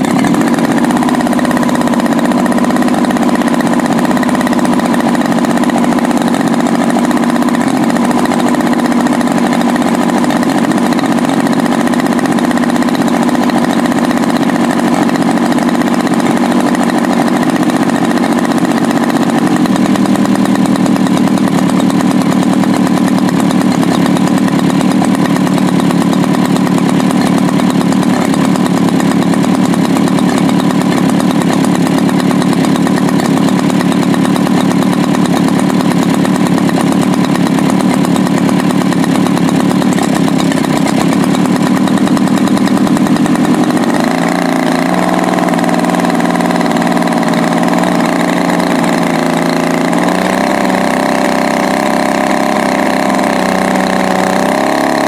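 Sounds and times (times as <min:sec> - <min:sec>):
model plane engine running: 0:00.0 - 0:55.0.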